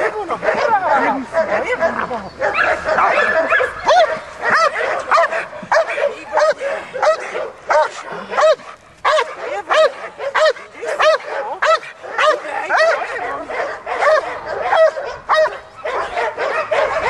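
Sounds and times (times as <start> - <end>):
dog barking: 0.0 - 17.0.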